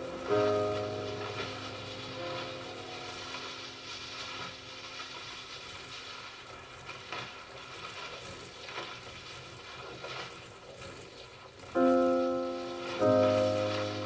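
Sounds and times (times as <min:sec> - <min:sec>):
electronic crackling and hissing: 0:00.0 - 0:14.0
faint steady electronic tones: 0:00.0 - 0:14.0.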